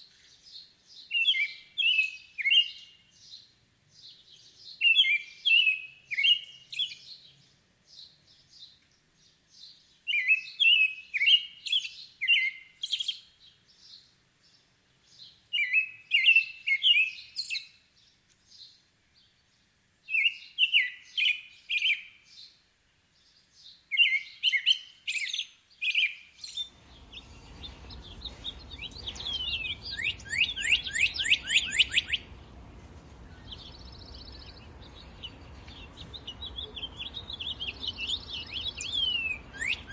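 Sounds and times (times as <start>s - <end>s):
low background noise: 0.0s - 39.9s
songbird chirping: 0.0s - 39.9s.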